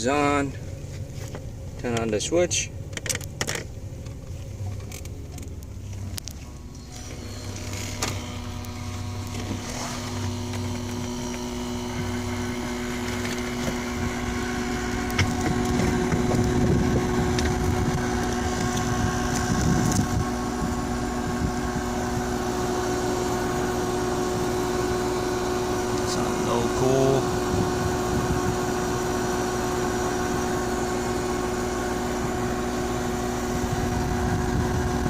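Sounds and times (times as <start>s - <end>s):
van engine idling: 0.0s - 35.0s.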